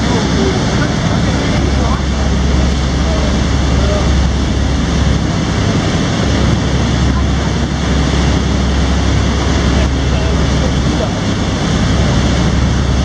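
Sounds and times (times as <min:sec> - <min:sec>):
boat engine droning: 0:00.0 - 0:13.0
water rushing: 0:00.0 - 0:13.0
wind rushing: 0:00.0 - 0:13.0.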